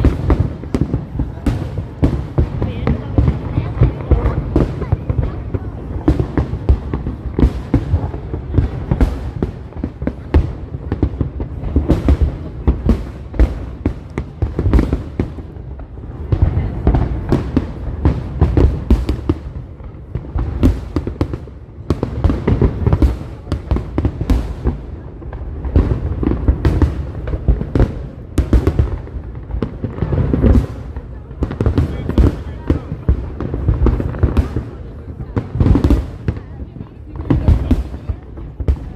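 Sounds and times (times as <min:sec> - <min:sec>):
deep fireworks booms: 0:00.0 - 0:38.9
fireworks bangs and crackles: 0:00.0 - 0:38.9.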